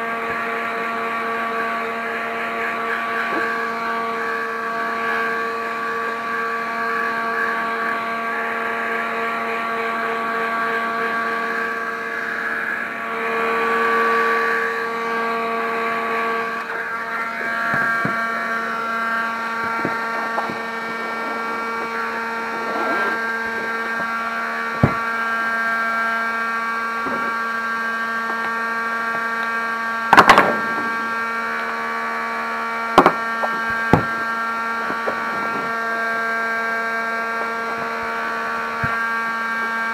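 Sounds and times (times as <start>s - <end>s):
heat gun fan whine: 0.0s - 39.9s.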